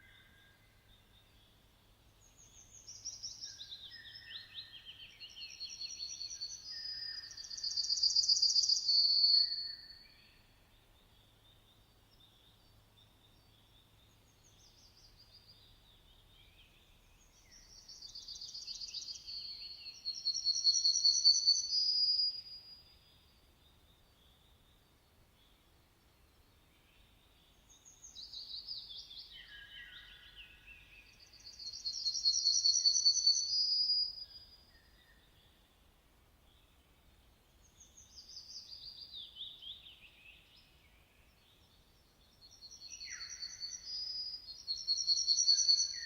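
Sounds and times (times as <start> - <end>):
songbird singing trills: 0.0 - 35.7, 36.4 - 46.0.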